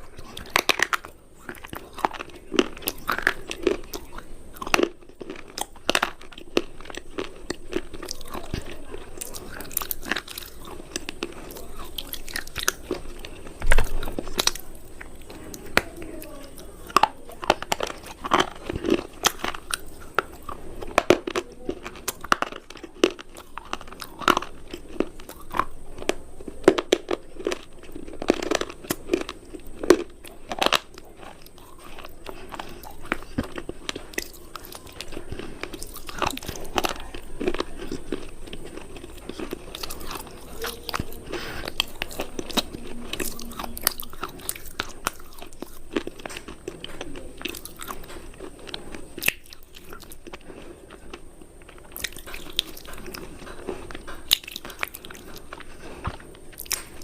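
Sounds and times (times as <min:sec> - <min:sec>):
crunchy cubes being chewed: 0:00.0 - 0:57.0.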